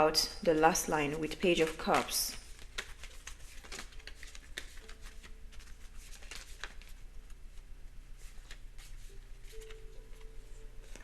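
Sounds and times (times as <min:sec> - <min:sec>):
cards being shuffled: 0:01.2 - 0:11.0.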